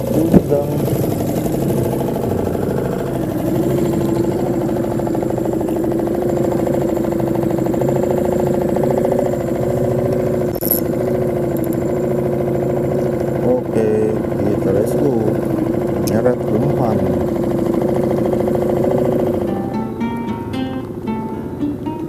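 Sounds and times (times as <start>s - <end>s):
outboard motor running: 0.0s - 21.8s.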